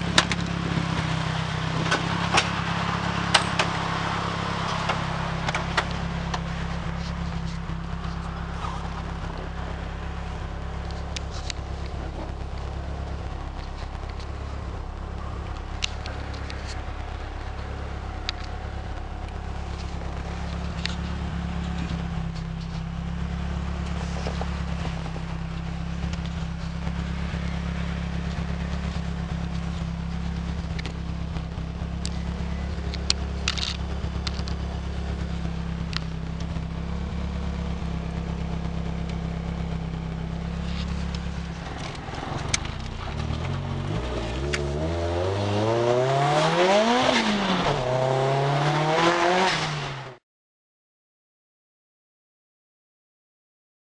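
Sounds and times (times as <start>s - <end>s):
car engine idling: 0.0s - 50.2s.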